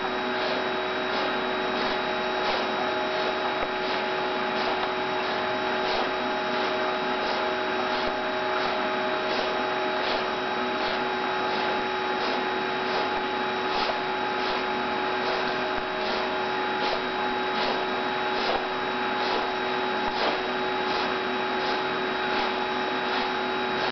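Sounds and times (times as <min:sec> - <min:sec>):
pool pump humming: 0:00.0 - 0:23.9.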